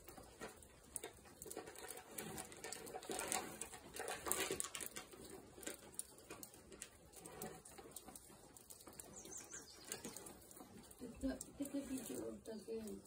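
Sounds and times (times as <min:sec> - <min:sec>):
rustling and crinkling of garbage: 0:00.0 - 0:13.0.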